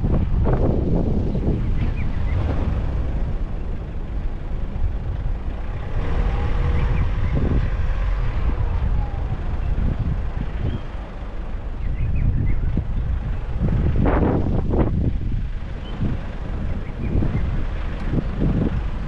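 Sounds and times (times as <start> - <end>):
vehicle engine rumble: 0.0 - 19.0
wind noise on microphone: 0.0 - 19.0.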